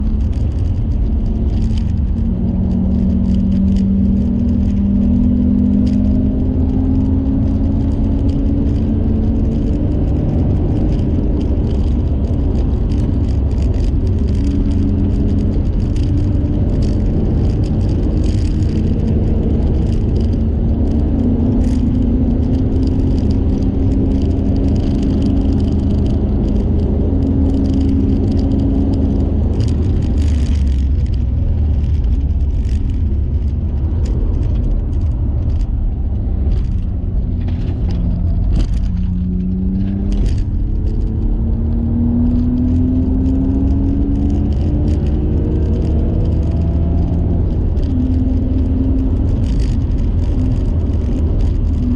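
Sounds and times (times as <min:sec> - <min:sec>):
car engine shifting gears: 0:00.0 - 0:51.9
road and wind rumble: 0:00.0 - 0:51.9.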